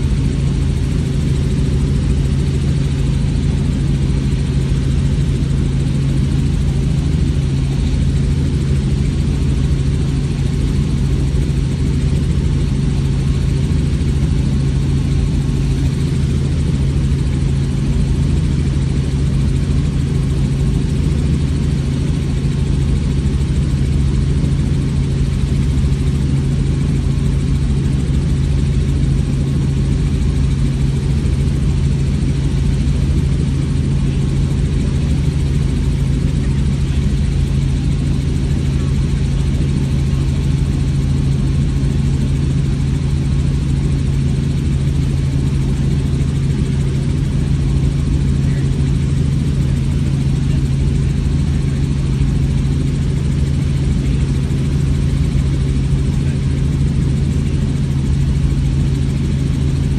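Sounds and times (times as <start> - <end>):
helicopter rotor and turbine drone: 0.0 - 59.9.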